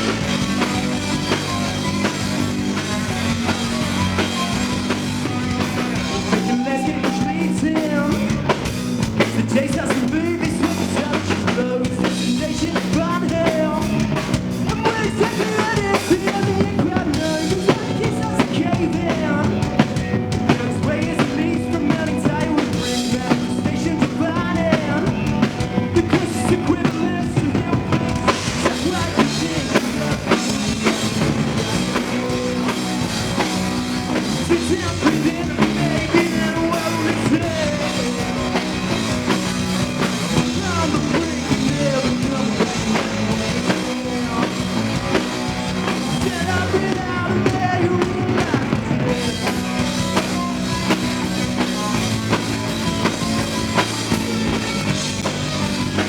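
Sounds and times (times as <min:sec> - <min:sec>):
drum kit: 0:00.0 - 0:56.0
live rock band playing: 0:00.0 - 0:56.0
person singing: 0:00.0 - 0:56.0.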